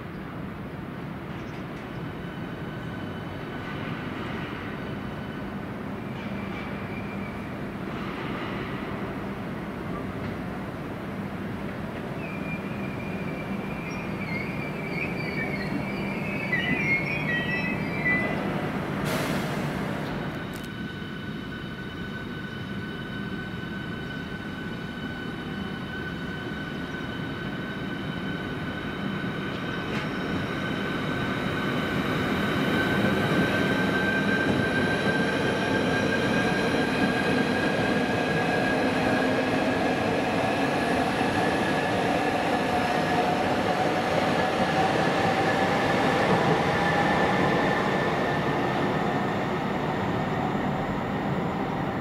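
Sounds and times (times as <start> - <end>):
train rumbling running noise: 0.0 - 52.0
electric train whine: 0.4 - 52.0.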